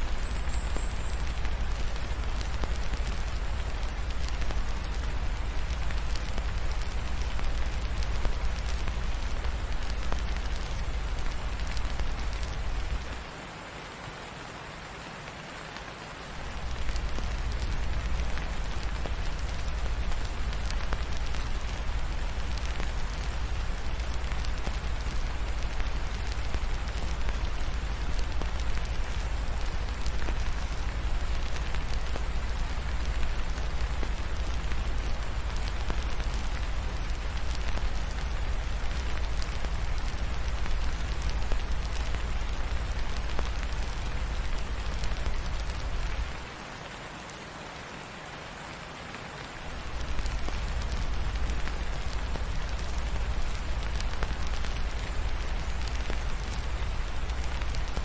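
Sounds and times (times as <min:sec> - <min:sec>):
fireplace fire crackling: 0:00.0 - 0:58.0
steady rain falling: 0:00.0 - 0:58.0.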